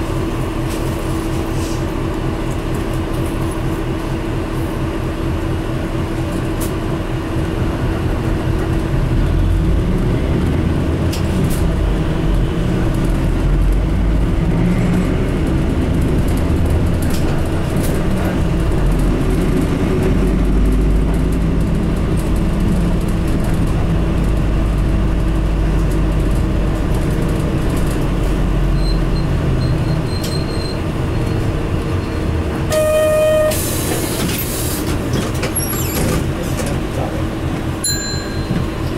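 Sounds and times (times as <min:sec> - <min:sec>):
bus diesel engine rumble: 0:00.0 - 0:38.9
road noise: 0:00.0 - 0:38.9.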